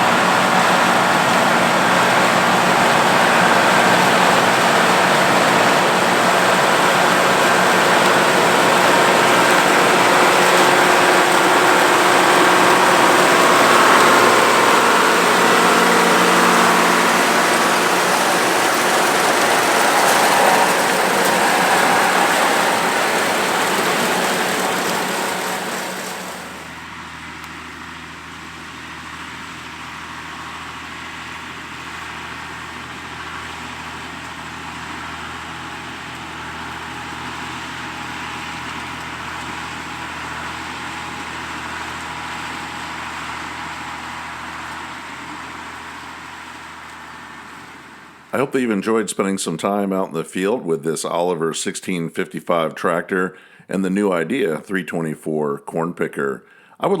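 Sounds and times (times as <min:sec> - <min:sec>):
tractor engine hum: 0:00.0 - 0:49.8
tractor and corn picker din: 0:00.0 - 0:57.0.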